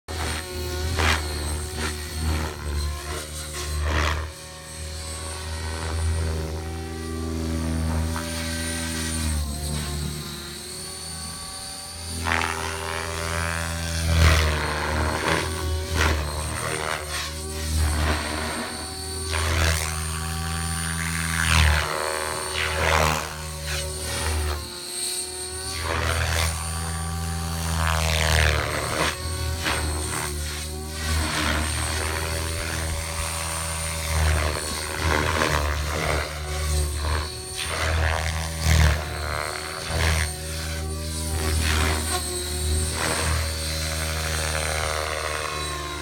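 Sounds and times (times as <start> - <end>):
model helicopter rotor whine: 0.0 - 46.0.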